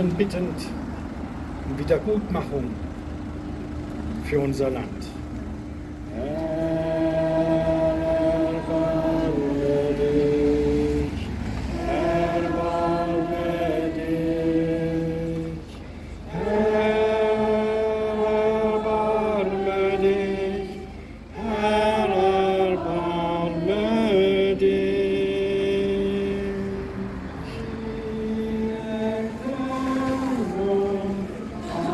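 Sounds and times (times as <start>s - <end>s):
slow chant-like singing: 5.9s - 31.9s.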